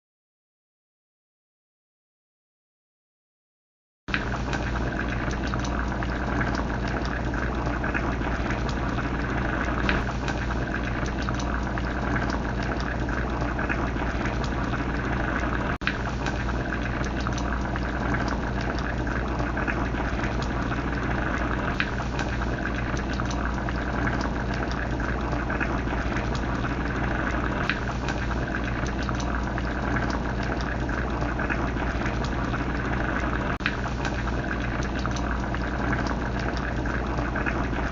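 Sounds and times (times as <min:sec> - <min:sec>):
pot boiling and bubbling: 0:04.1 - 0:37.9.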